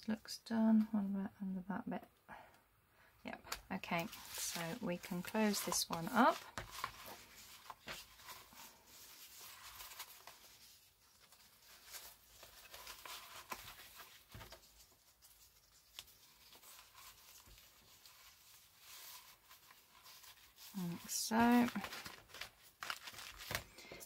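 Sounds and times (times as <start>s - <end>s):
card and paper rustling: 3.4s - 24.0s.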